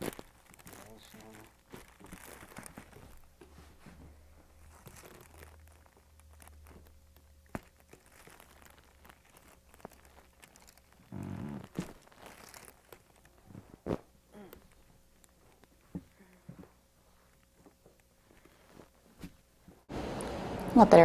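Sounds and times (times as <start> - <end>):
soft rustling and crinkling: 0.0 - 19.9.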